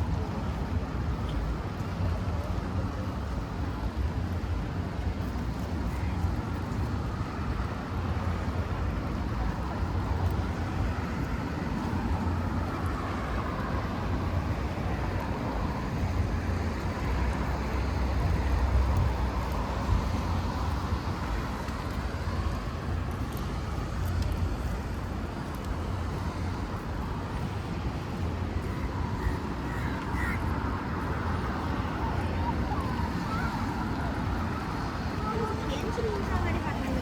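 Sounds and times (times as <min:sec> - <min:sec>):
rain: 0:00.0 - 0:37.0.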